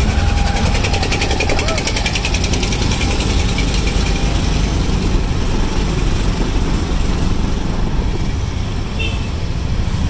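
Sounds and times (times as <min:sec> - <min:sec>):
rickshaw engine rumbling: 0:00.0 - 0:10.0.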